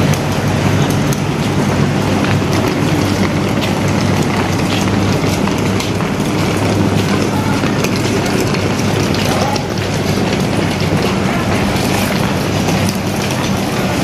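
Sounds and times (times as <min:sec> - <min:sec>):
suitcase wheels rolling on concrete: 0:00.0 - 0:14.0
train diesel engine hum: 0:00.0 - 0:14.0.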